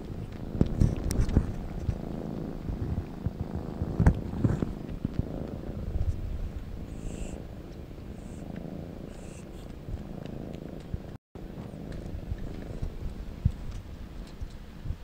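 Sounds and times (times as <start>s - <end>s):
cats purring: 0.0s - 15.0s.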